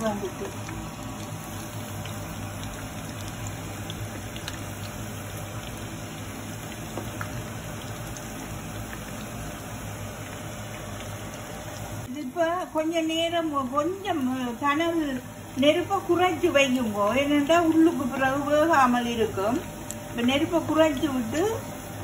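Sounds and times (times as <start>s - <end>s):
oil sizzling and bubbling: 0.0s - 22.0s.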